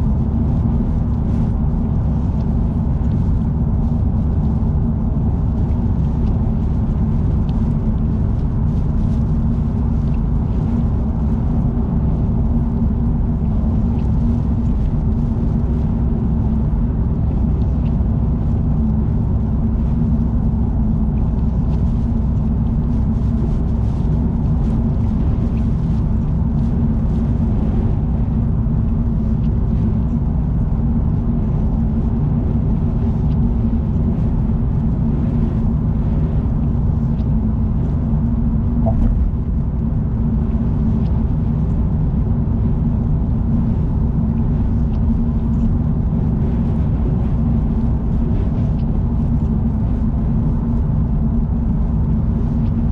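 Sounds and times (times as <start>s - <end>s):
car tyre and engine rumble: 0.0s - 52.9s.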